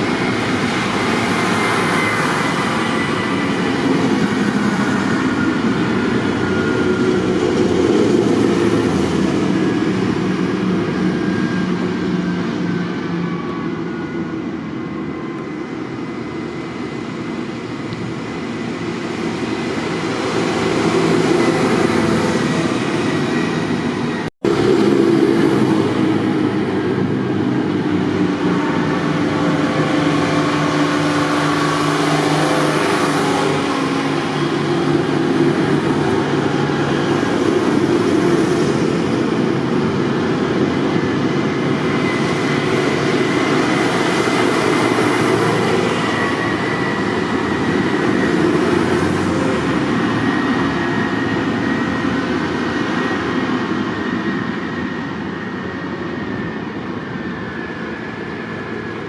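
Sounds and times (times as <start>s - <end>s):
tractor engines running: 0.0s - 57.2s.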